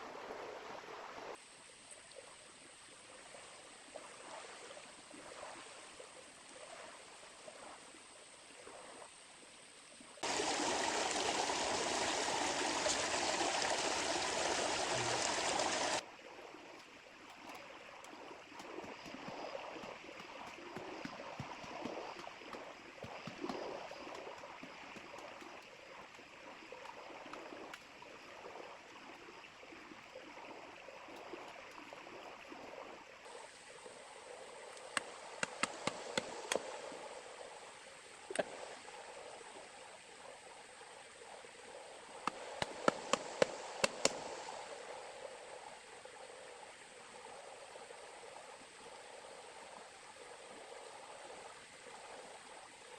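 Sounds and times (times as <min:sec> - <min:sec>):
river water flowing: 0:00.0 - 0:52.9.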